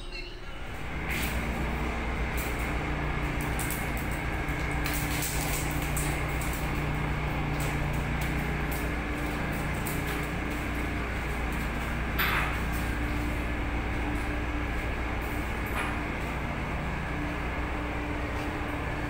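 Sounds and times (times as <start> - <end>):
ship machinery hum: 0.0 - 19.0.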